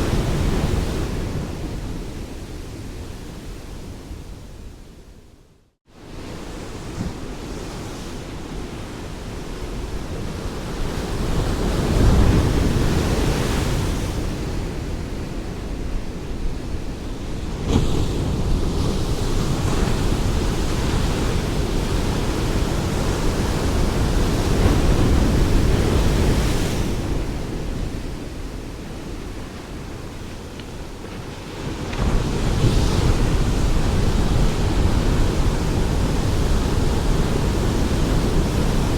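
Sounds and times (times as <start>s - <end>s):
ocean waves breaking on shore: 6.0s - 38.9s.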